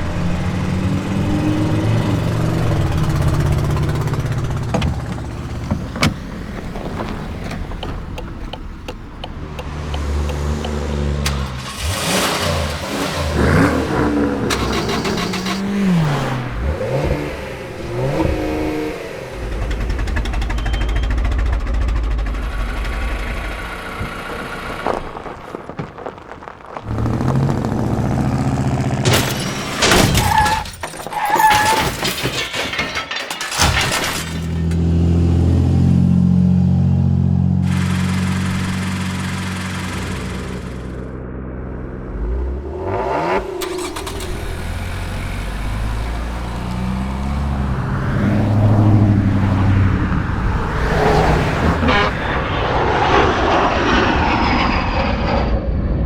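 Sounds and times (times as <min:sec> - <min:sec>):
vehicle engines running: 0:00.0 - 0:55.0.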